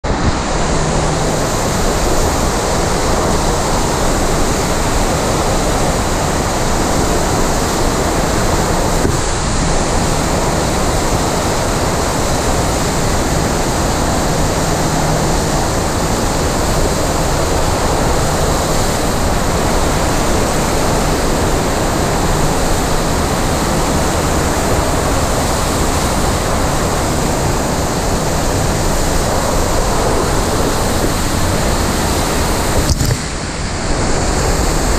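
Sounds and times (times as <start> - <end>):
rush of pumped water: 0.0 - 34.9.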